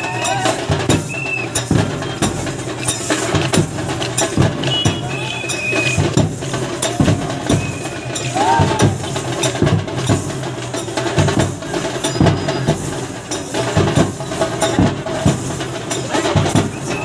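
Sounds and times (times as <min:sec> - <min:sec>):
dense background noise: 0:00.0 - 0:17.0
music with drums beating: 0:00.0 - 0:17.0.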